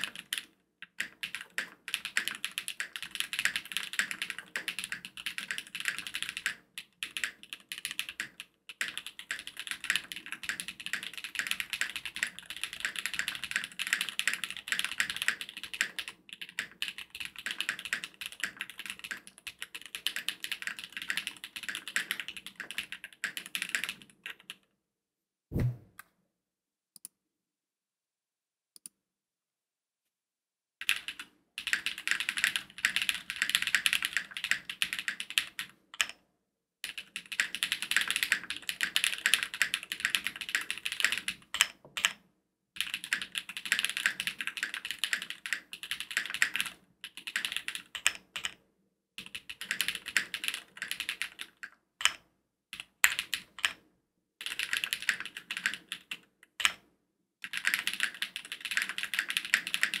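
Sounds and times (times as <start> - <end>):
rapid mechanical keyboard typing: 0.0 - 24.6, 30.8 - 36.2, 36.8 - 42.2, 42.8 - 48.6, 49.2 - 52.2, 52.8 - 53.8, 54.4 - 56.8, 57.4 - 60.0.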